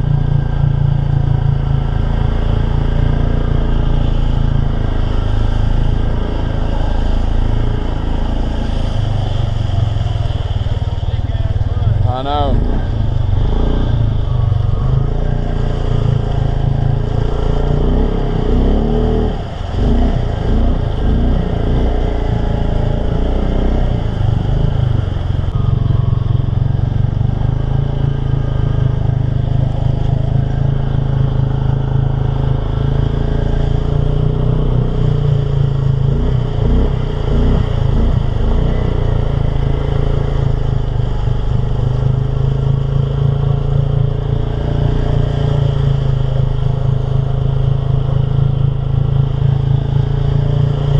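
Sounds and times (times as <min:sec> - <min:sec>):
truck engine revving: 0:00.0 - 0:50.9.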